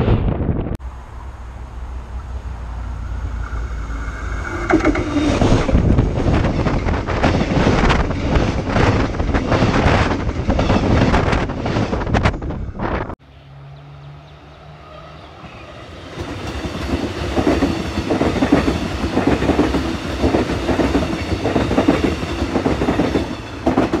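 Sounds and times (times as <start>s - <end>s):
electric train passing: 0.8s - 24.0s.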